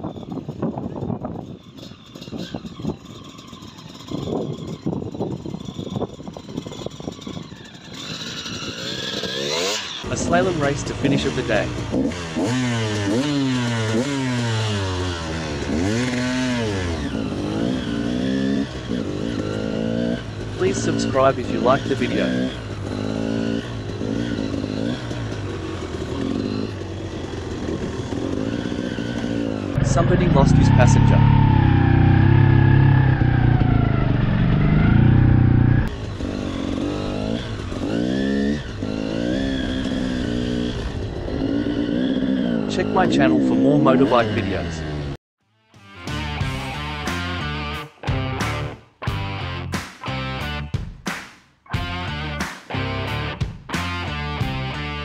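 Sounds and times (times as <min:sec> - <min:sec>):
two-stroke motorcycle engine revving: 0:00.0 - 0:45.2, 0:51.7 - 0:55.0.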